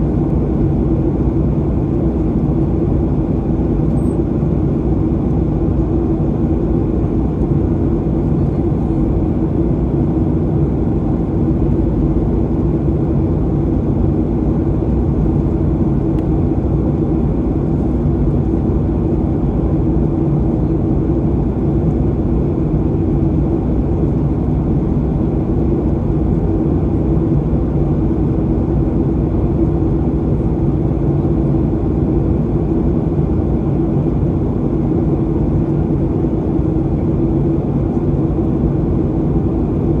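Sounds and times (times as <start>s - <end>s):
airplane cabin drone: 0.0s - 40.0s.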